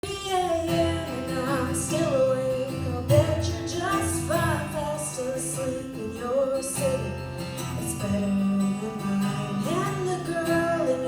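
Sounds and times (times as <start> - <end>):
acoustic guitar: 0.0 - 11.0
woman singing a ballad: 0.0 - 11.0.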